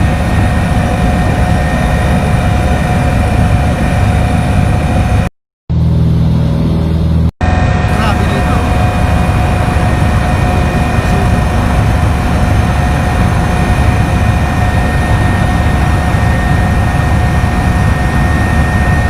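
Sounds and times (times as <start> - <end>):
aircraft engine droning: 0.0 - 19.0.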